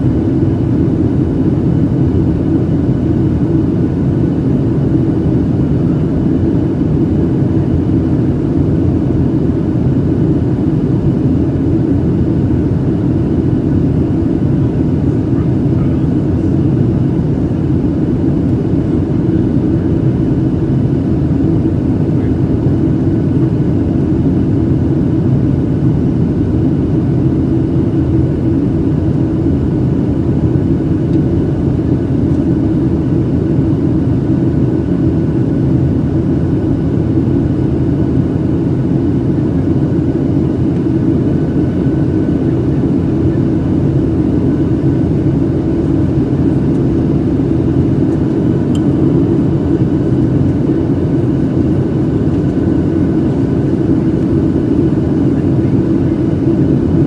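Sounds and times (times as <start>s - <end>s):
aircraft cabin engine roar: 0.0s - 57.0s
faint steady whine: 0.0s - 57.0s.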